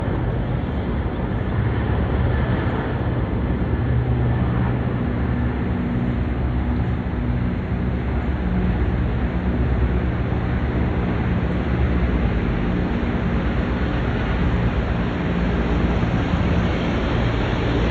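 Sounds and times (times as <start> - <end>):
helicopter rotor and engine drone: 0.0 - 17.9.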